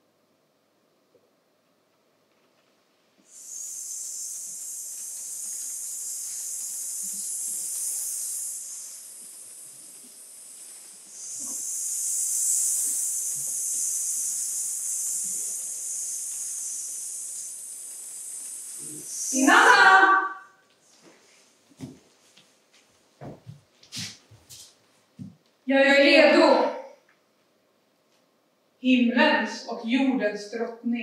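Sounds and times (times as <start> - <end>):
steady high hiss: 0.0 - 31.0.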